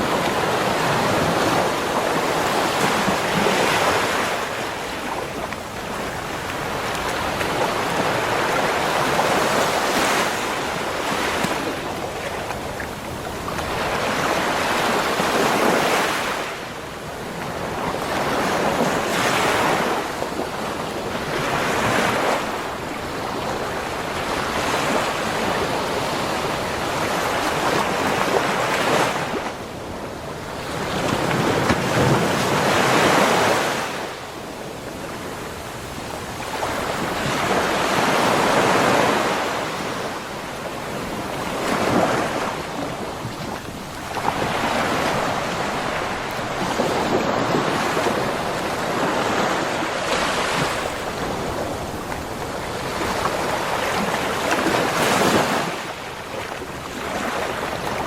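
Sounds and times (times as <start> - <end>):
ocean waves breaking on beach: 0.0 - 58.0
wind on microphone: 0.0 - 58.0.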